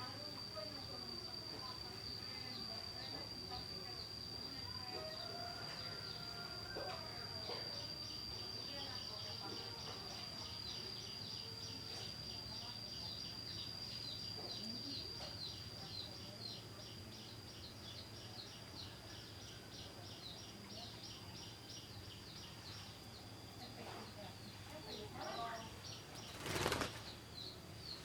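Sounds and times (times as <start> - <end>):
insect high-pitched whine: 0.0 - 28.0
insect pulsed chirps: 0.0 - 28.0.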